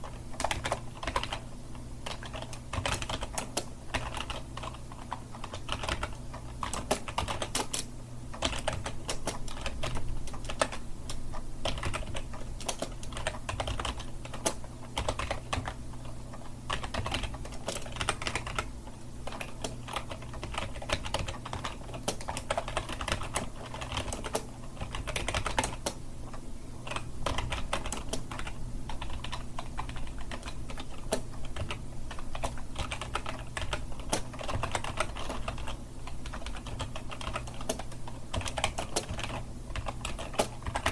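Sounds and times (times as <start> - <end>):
fast typing on keyboard: 0.0 - 26.0, 26.8 - 40.9
faint low hum: 0.0 - 40.9.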